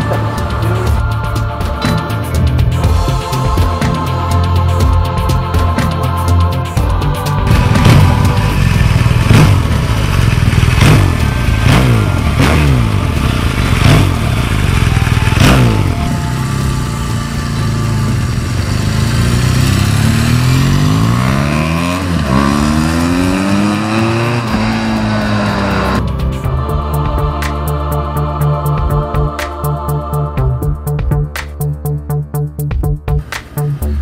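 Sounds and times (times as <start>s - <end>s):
motorcycle engine revving: 0.0s - 28.0s, 33.2s - 34.0s.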